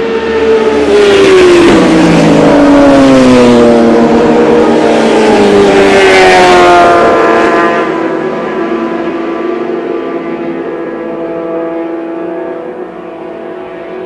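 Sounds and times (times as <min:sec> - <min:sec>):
motor vehicle engine accelerating: 0:00.0 - 0:14.0.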